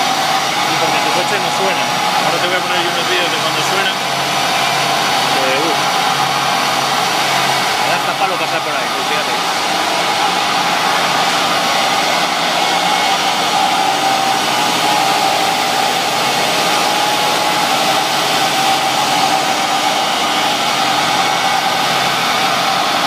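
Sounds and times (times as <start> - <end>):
cooling fan blowing air: 0.0 - 23.0.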